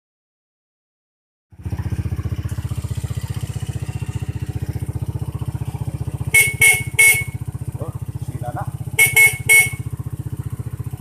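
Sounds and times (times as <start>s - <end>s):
motorcycle engine idling: 1.5s - 11.0s.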